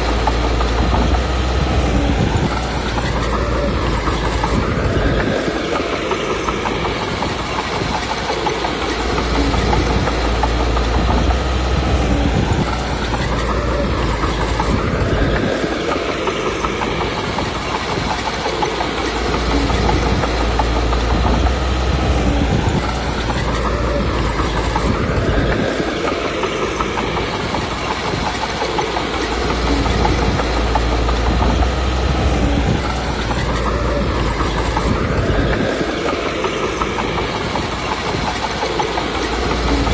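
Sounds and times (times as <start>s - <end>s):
bulldozer diesel engine under load: 0.0s - 39.9s
steel tracks clattering: 0.0s - 39.9s.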